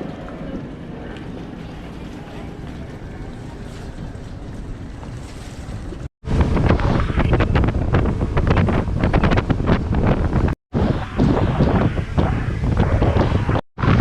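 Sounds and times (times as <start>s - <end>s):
rushing water: 0.0s - 12.0s
boat engine: 0.0s - 12.7s
wind buffeting microphone: 0.0s - 14.0s.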